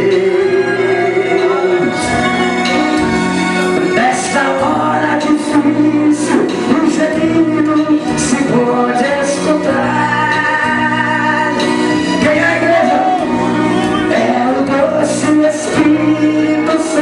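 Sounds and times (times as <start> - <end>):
man singing into a microphone: 0.0 - 2.8, 3.8 - 17.0
instrumental accompaniment: 0.0 - 17.0.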